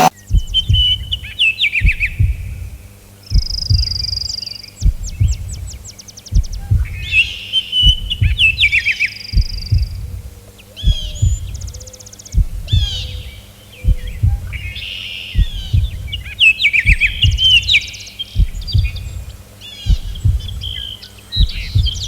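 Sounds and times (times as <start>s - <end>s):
dull low thud: 0.0s - 14.8s, 15.4s - 22.0s
songbirds chirping and trilling: 0.0s - 22.0s.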